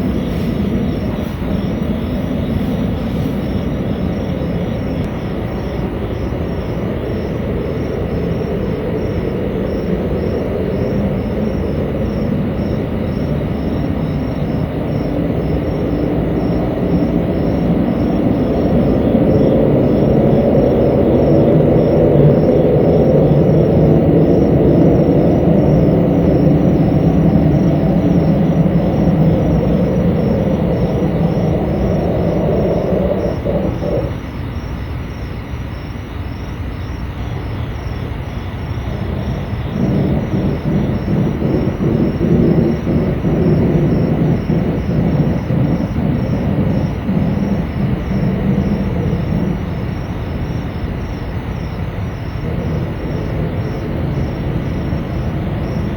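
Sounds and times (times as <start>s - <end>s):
low rumbling drone: 0.0s - 34.7s, 38.4s - 55.9s.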